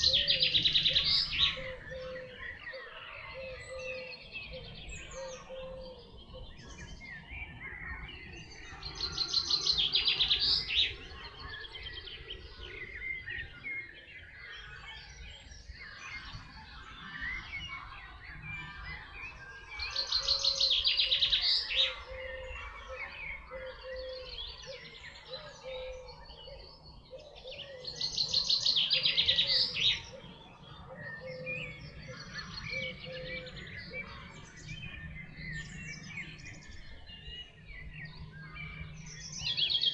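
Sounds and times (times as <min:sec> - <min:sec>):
birds chirping softly: 0:00.0 - 0:39.9.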